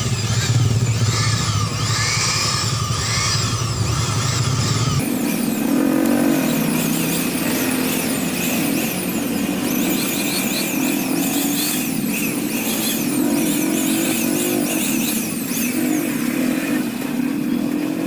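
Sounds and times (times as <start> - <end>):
electric blower motor drone: 0.0 - 15.3.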